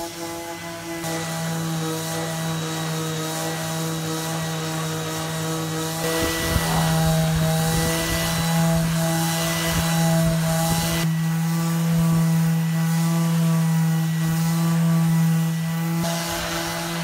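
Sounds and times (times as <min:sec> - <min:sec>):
electric sander motor hum: 0:00.0 - 0:17.0
sander rubbing on wood: 0:00.0 - 0:17.0.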